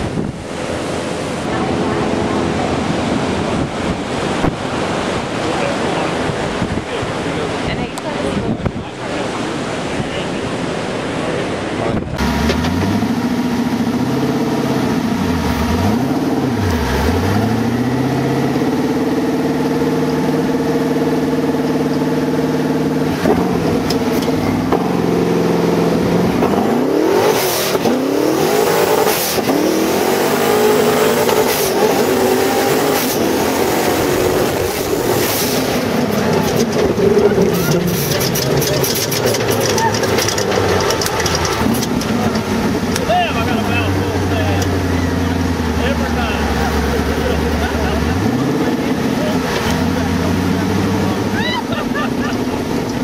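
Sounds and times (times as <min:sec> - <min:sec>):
engine revving under load: 0:00.0 - 0:09.8, 0:10.5 - 0:53.0.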